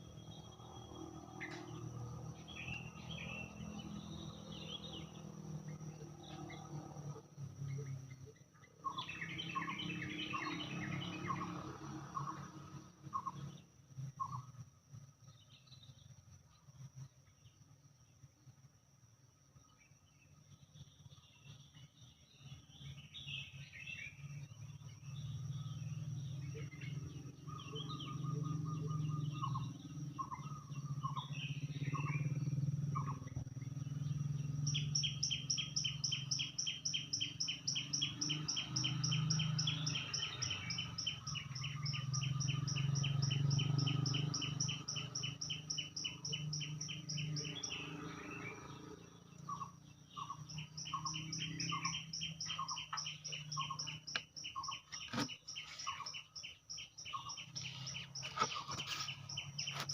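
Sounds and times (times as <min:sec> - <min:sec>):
birds chirping and singing: 0:00.0 - 0:14.6, 0:19.6 - 0:59.9.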